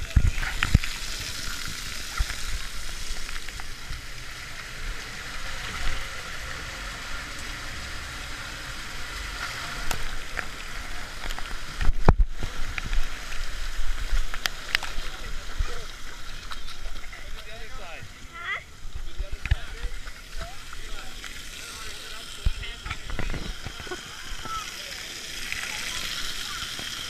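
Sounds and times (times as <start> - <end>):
water rushing down a water slide: 0.0 - 27.0.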